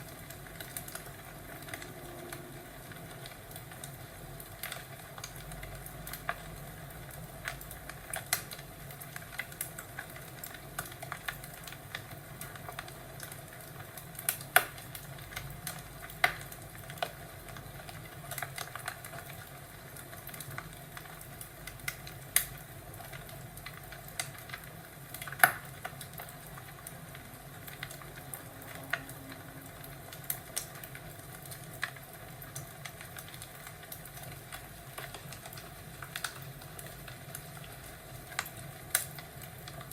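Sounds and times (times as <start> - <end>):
fireplace crackling and popping: 0.0 - 39.9.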